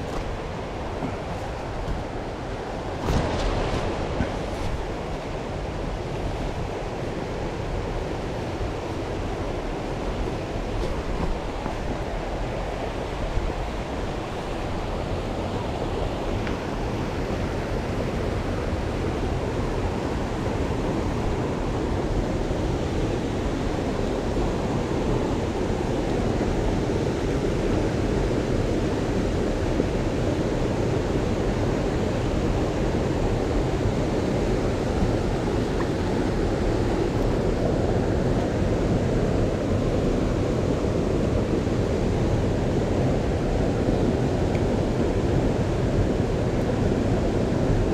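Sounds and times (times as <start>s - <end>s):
mountain stream rushing: 0.0s - 47.9s.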